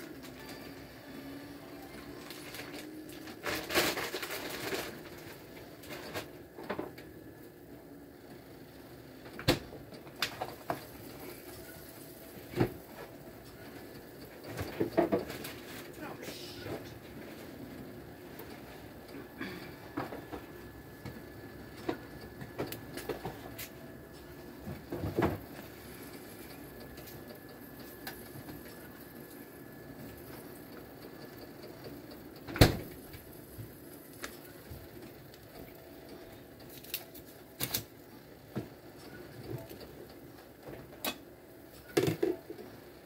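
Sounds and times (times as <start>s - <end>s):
faint steady background noise: 0.0s - 43.0s.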